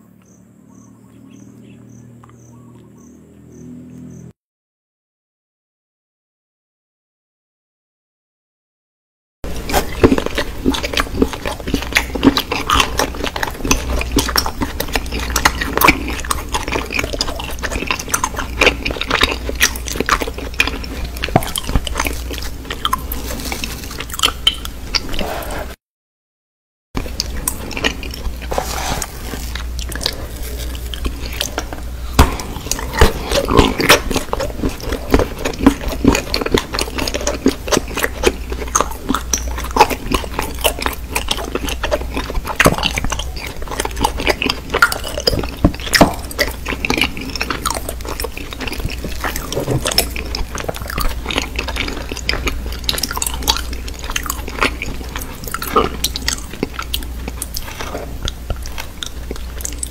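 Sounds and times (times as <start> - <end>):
person biting and chewing: 9.5 - 25.8, 27.0 - 59.9
steady low hum: 9.5 - 25.8, 27.0 - 59.9.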